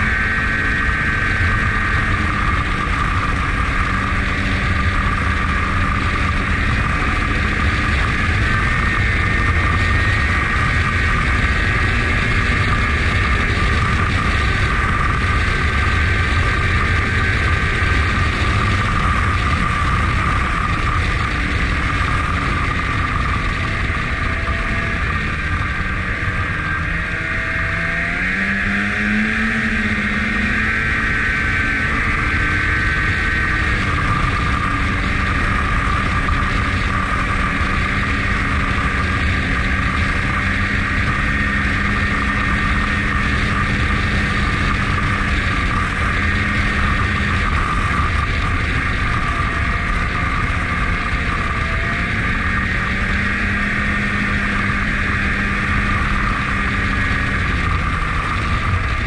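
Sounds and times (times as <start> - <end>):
high whine: 0.0 - 59.0
snowmobile engine drone: 0.0 - 59.0.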